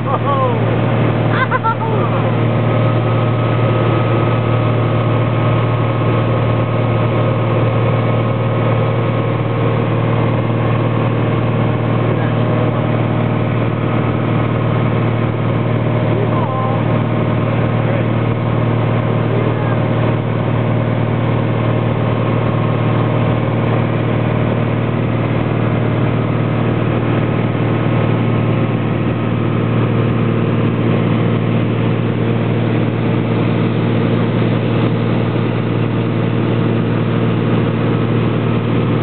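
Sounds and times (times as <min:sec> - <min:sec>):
propeller plane engine droning: 0:00.0 - 0:39.0.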